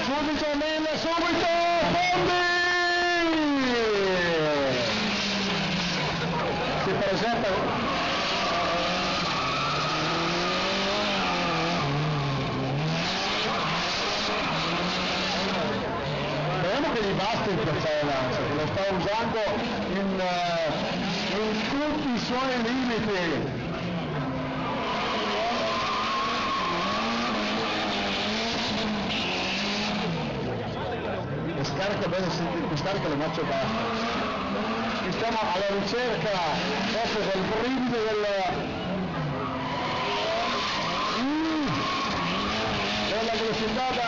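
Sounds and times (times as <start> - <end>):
car engine revving: 0.0 - 44.0
tyres squealing: 1.2 - 22.9, 23.8 - 30.4, 31.7 - 44.0.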